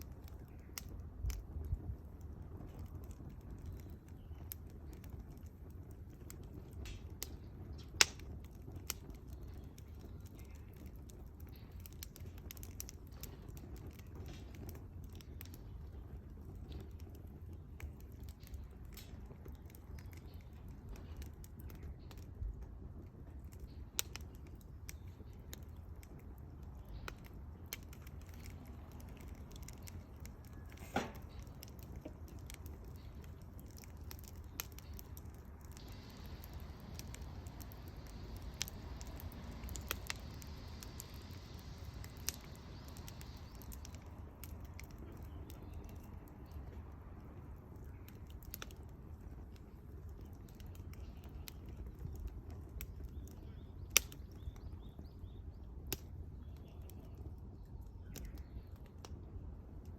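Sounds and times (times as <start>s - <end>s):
bonfire crackling and popping: 0.0s - 59.9s
low steady rumble: 0.0s - 59.9s.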